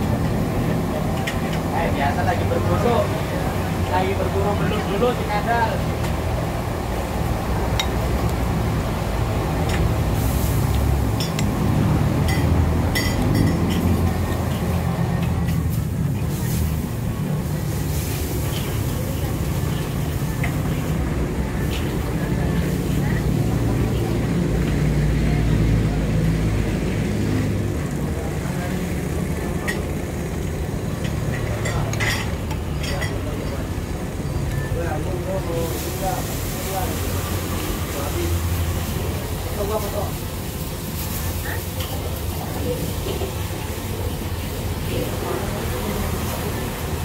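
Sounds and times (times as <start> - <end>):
low engine rumble: 0.0 - 47.0.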